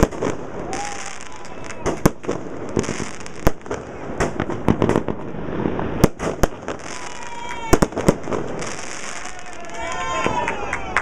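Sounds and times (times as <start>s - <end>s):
fireworks bangs: 0.0s - 11.0s
fireworks crackle: 0.0s - 11.0s.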